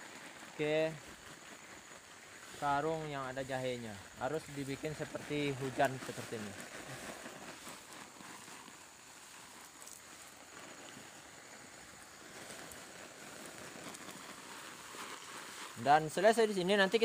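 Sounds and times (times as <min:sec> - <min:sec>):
hose spraying water mist: 0:00.0 - 0:17.0.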